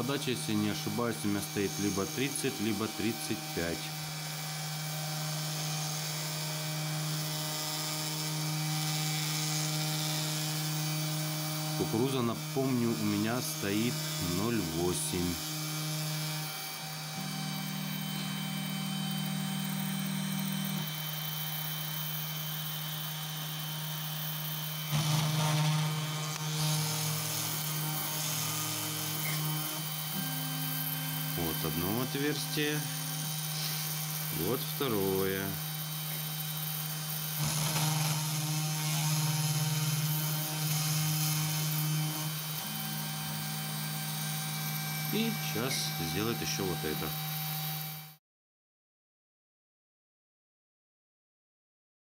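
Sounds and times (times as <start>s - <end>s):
router spindle motor cutting: 0.0s - 48.2s.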